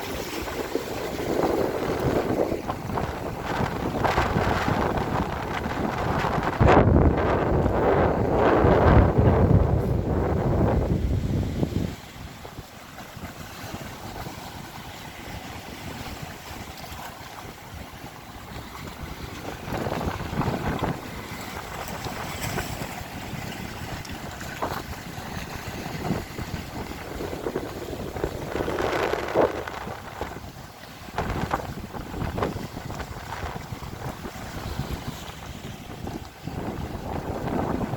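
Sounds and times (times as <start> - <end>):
sea washing: 0.0 - 37.9
wind buffeting microphone: 0.0 - 37.9.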